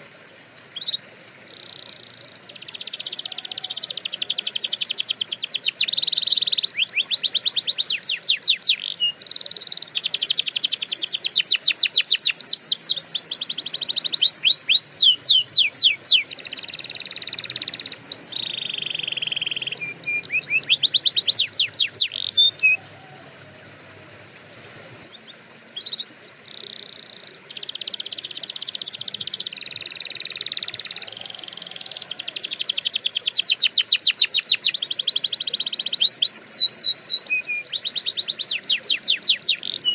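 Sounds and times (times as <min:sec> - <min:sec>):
canary singing trills: 0:00.6 - 0:23.7, 0:25.1 - 0:39.9.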